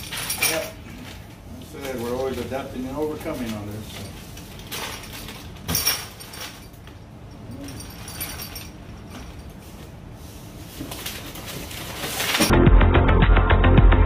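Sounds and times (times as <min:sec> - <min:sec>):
plastic packs rustling and clinking: 0:00.0 - 0:12.5.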